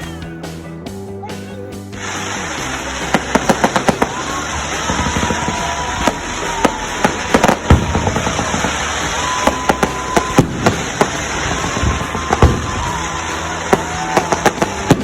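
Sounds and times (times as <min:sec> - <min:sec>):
firework whistles: 0:02.0 - 0:15.0
fireworks bangs and crackles: 0:02.0 - 0:15.0.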